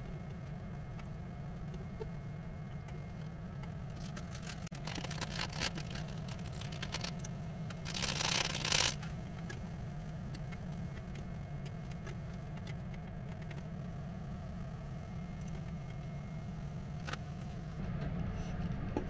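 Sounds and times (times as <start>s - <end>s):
gas burner rumble: 0.0s - 19.0s.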